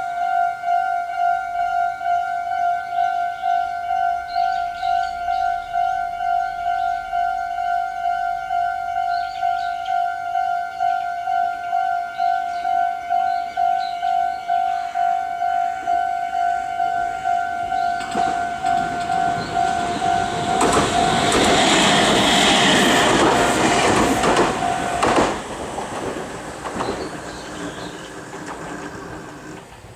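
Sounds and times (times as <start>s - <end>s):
electric train passing: 0.0s - 29.9s.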